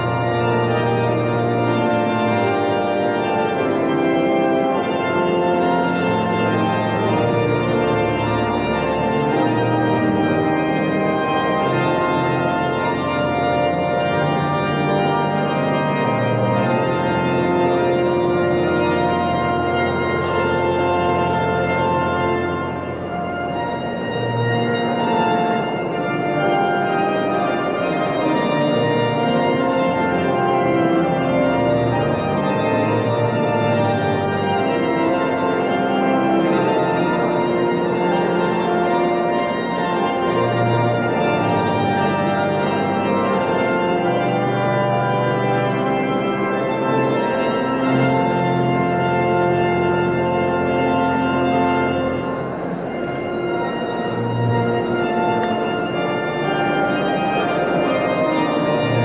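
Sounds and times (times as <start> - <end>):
organ chords: 0.0 - 59.0.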